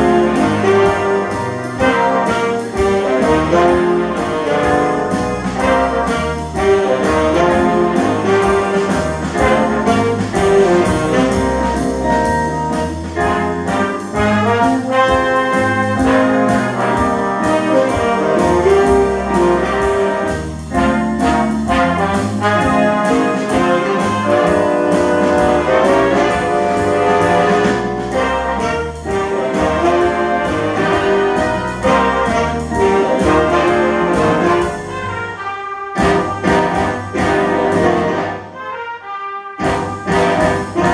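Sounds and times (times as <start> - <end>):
big band playing swing jazz: 0.0 - 40.9.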